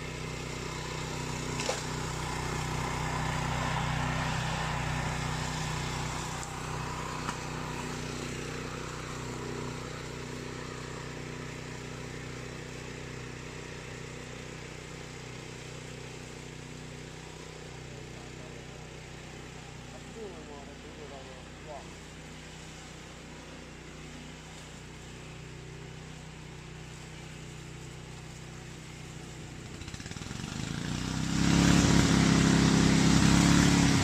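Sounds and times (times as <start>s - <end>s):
mower engine running: 0.0s - 34.0s.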